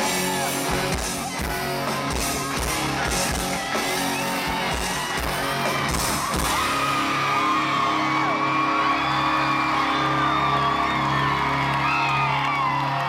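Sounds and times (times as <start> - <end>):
live rock band: 0.0 - 12.8
crowd whooping and screaming: 0.0 - 13.0.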